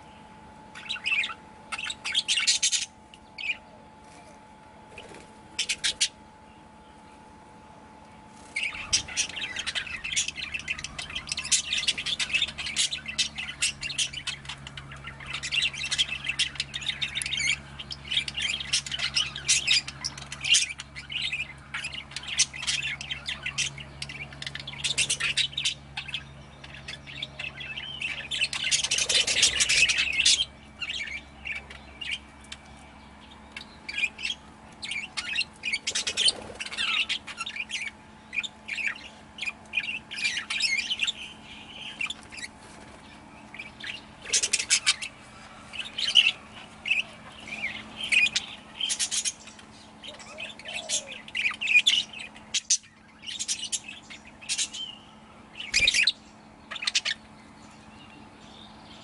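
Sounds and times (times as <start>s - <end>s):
budgerigars chattering: 0.7s - 3.7s, 5.6s - 6.2s, 8.4s - 59.0s.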